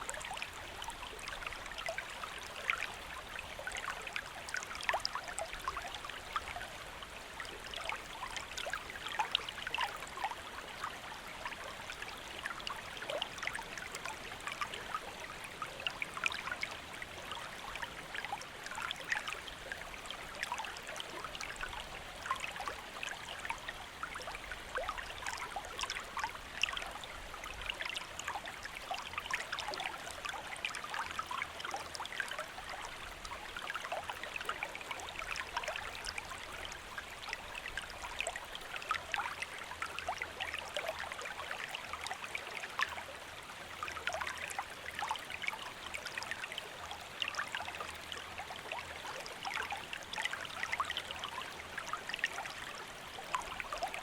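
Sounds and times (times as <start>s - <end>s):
shallow stream flowing: 0.0s - 54.0s.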